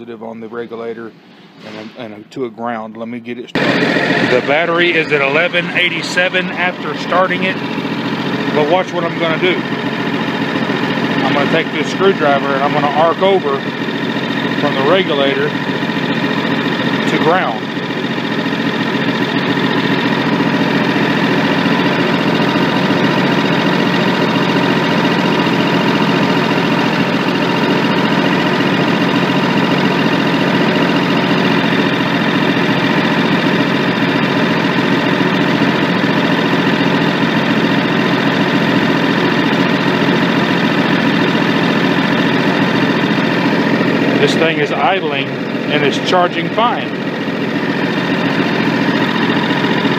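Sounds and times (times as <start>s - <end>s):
small engine idling: 3.5s - 49.9s.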